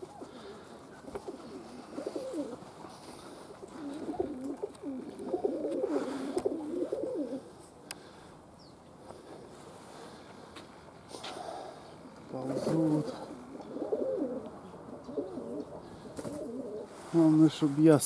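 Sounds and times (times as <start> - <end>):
pigeons cooing: 0.0 - 17.4.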